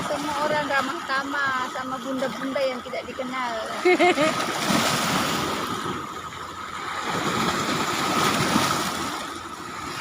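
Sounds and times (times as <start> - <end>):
sea waves breaking on shore: 0.0 - 10.0.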